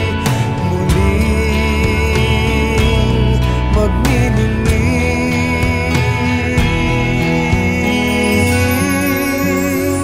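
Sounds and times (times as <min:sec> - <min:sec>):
instrumental music with wavering melody: 0:00.0 - 0:10.0.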